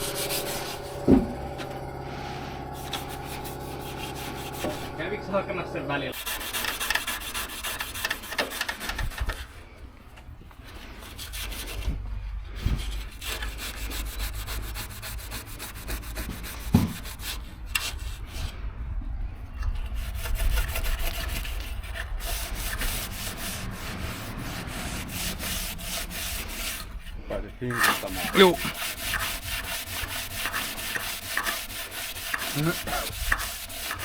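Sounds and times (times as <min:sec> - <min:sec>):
sandpaper rubbing back and forth: 0:00.0 - 0:09.5, 0:12.6 - 0:18.4, 0:19.9 - 0:34.0.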